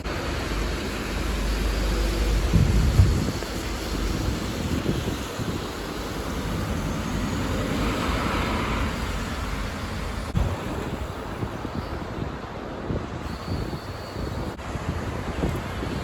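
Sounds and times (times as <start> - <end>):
bus passing: 0.0 - 16.0
wind buffeting microphone: 0.0 - 16.0.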